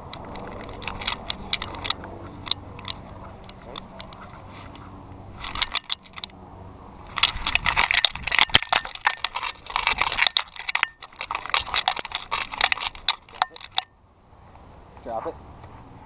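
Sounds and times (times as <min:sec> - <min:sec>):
dog collar jingling: 0:00.0 - 0:06.3, 0:07.1 - 0:13.9.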